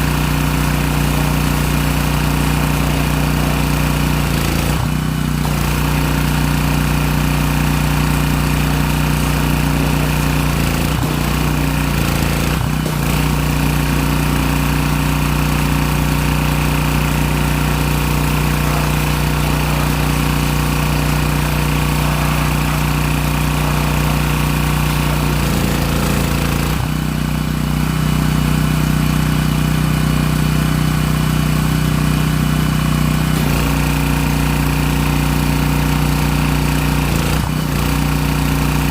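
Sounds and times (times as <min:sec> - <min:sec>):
lawnmower engine running: 0:00.0 - 0:38.9.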